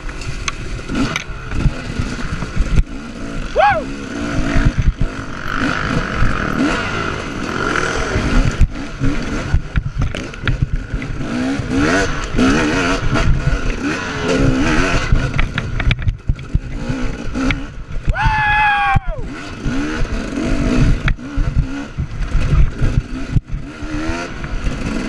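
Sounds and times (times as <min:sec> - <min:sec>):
dirt bike engine revving: 0:00.0 - 0:25.0
knocks and rattles of bike: 0:00.0 - 0:25.0.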